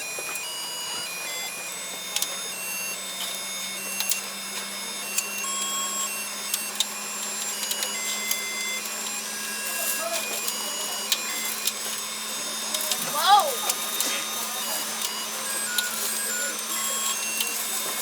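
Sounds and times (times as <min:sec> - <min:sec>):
vending machine motor hum: 0:00.0 - 0:18.0.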